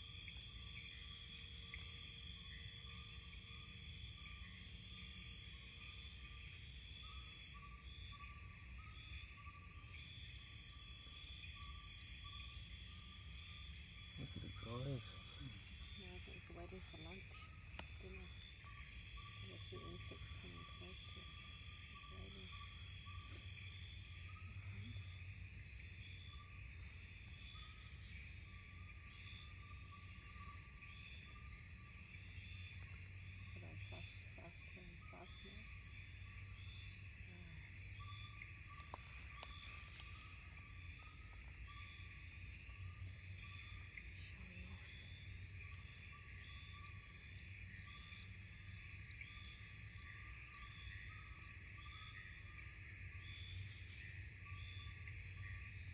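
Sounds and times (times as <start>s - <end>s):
crickets and cicadas trilling: 0.0s - 55.9s
insect chirping in short pulses: 0.0s - 55.9s.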